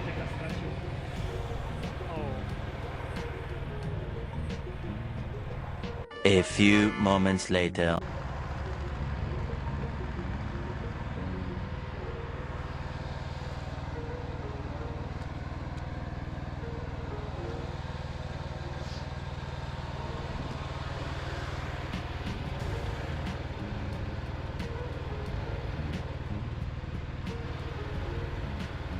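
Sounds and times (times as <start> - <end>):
tractor engine running: 0.0 - 6.1, 8.0 - 28.9.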